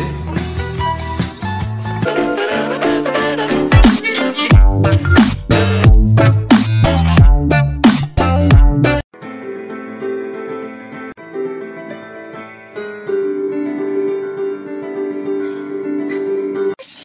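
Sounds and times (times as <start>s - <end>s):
digital piano long held notes: 0.0s - 16.8s.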